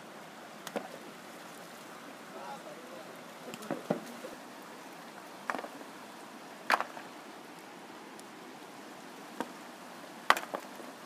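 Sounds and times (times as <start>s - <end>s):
rocky river flowing: 0.0s - 11.0s.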